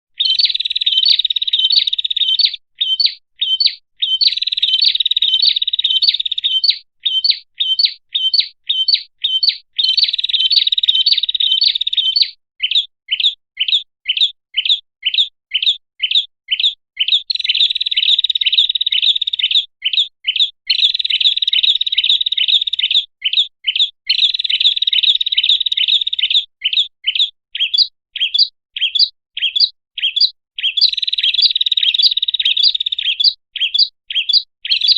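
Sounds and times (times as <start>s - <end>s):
bird sharp chirps: 0.1s - 34.9s.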